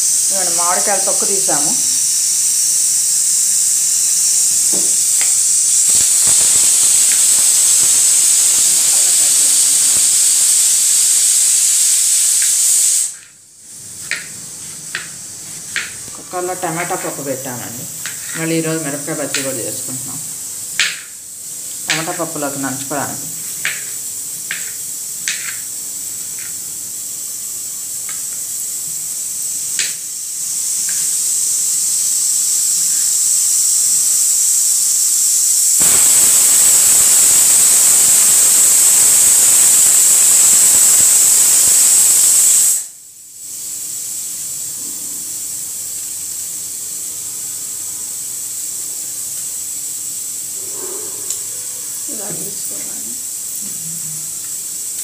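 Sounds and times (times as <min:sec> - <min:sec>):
pressure cooker steam hissing: 0:00.0 - 0:13.3, 0:13.9 - 0:53.7.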